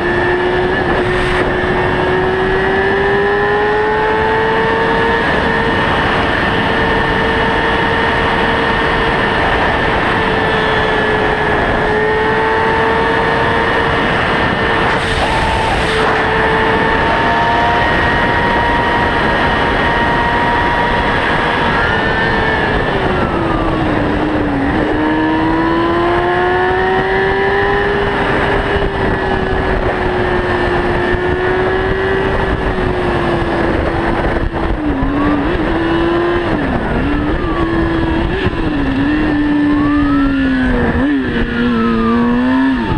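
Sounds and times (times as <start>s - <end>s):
motorcycle engine at high revs: 0.0s - 42.9s
wind and road noise: 0.0s - 42.9s.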